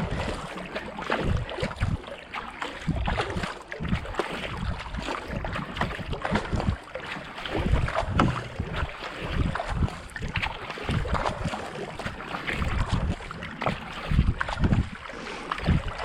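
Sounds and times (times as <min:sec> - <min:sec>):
wind rumbling on microphone: 0:00.0 - 0:02.1, 0:02.8 - 0:16.0
paddle splashing in water: 0:00.0 - 0:16.0.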